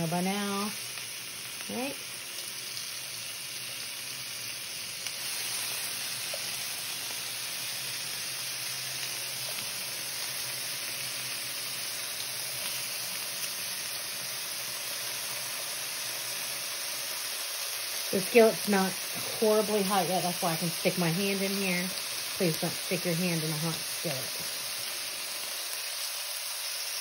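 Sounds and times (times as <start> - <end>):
bacon sizzling in a skillet: 0.0 - 27.0.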